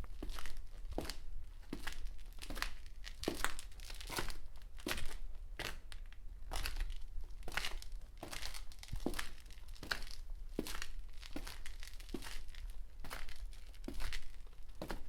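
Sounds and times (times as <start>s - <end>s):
footsteps on concrete: 0.1s - 5.8s, 7.5s - 15.0s.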